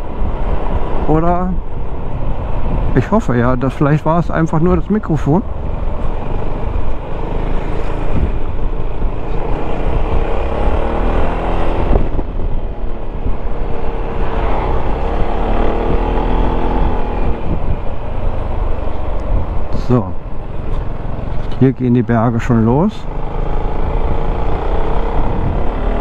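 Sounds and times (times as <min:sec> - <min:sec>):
low wind rumble: 0:00.0 - 0:26.0.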